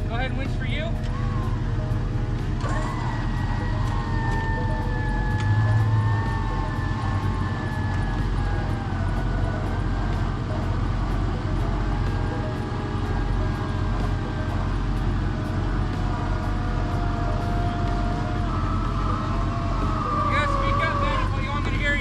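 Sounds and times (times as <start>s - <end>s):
electric winch motor whining: 0.0s - 22.0s
truck engines idling: 0.0s - 22.0s.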